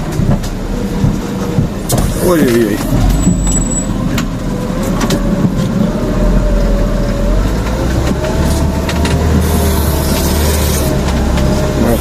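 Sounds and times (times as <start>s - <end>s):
brakes squealing: 0.0s - 12.0s
vehicle engine running: 0.0s - 12.0s.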